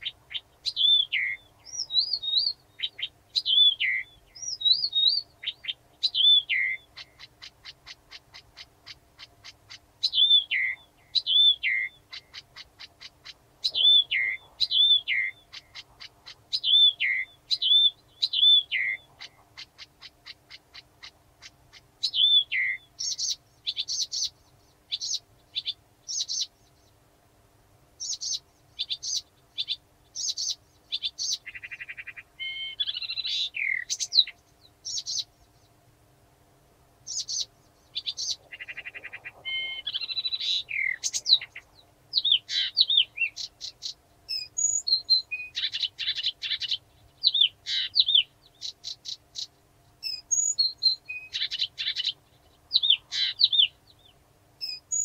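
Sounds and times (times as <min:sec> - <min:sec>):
warbler singing: 0:00.0 - 0:27.1, 0:28.0 - 0:35.9, 0:37.0 - 0:55.0.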